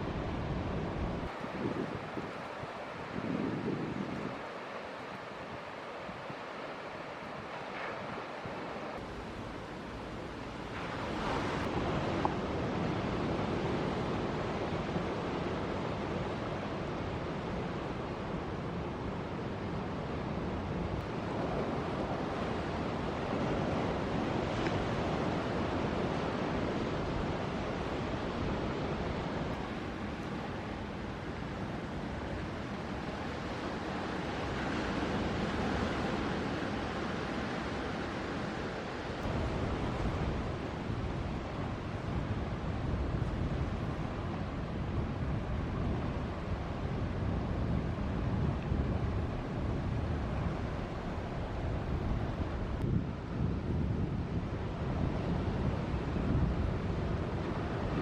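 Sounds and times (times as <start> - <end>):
ocean surf breaking: 0.0 - 52.8.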